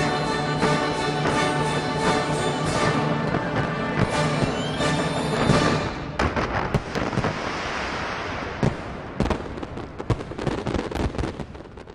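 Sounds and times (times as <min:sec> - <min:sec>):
fireworks bangs: 0:00.0 - 0:11.9.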